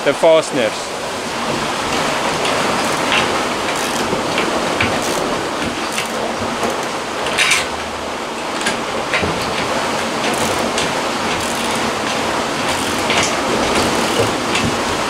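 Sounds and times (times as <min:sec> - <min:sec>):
water rushing along hull: 0:00.0 - 0:15.0.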